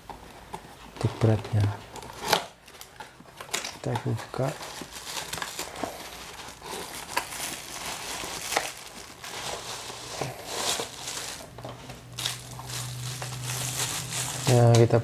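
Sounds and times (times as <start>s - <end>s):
plastic and cardboard rustling: 0.0s - 15.0s.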